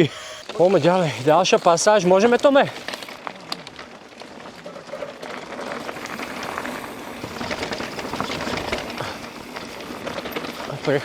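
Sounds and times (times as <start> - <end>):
bike clicks and rattles: 0.0 - 11.0
bike tyres on dirt trail: 0.0 - 11.0.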